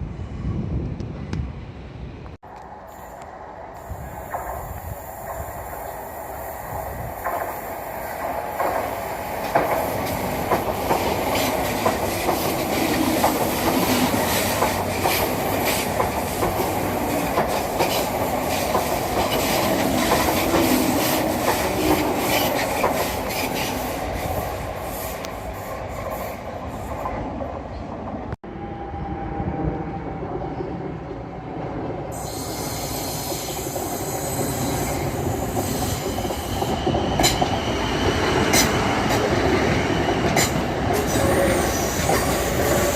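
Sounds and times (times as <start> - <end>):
train rumbling on rails: 0.0 - 42.9.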